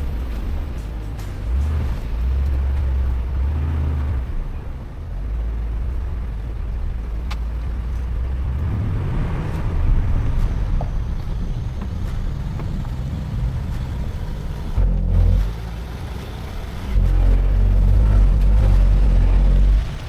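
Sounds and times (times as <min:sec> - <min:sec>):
off-road vehicle engine rumble: 0:00.0 - 0:20.0.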